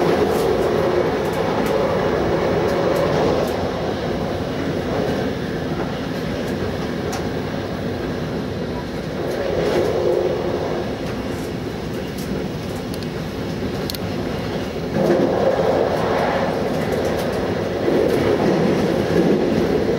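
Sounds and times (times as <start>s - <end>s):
electric train rolling: 0.0s - 19.9s.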